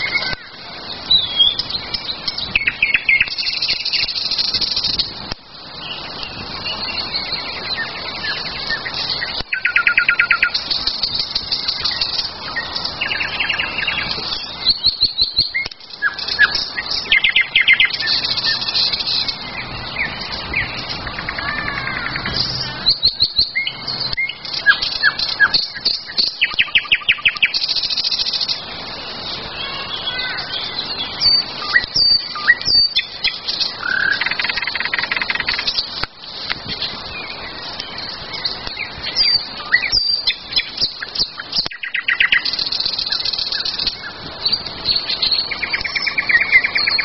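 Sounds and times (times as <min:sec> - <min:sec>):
songbirds trilling and chirping: 0:00.0 - 0:47.0.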